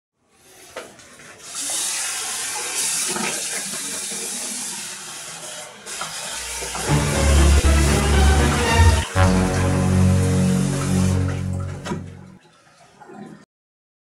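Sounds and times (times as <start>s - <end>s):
water running: 0.7s - 13.4s.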